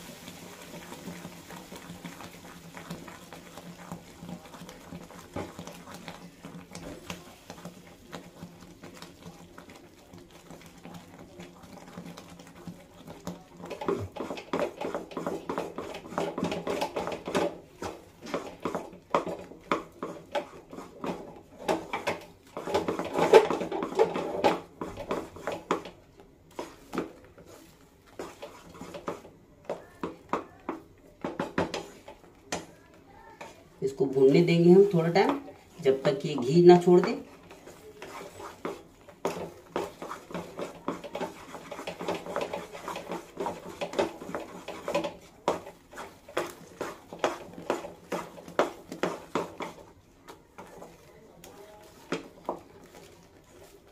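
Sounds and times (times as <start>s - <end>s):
spatula scraping frying pan: 0.0s - 53.9s.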